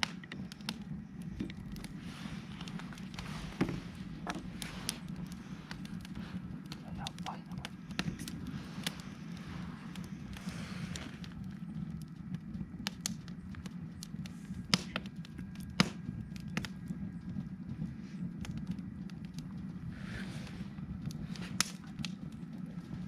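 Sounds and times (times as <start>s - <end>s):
campfire crackling and popping: 0.0s - 23.0s
loud fire snaps: 0.0s - 23.0s.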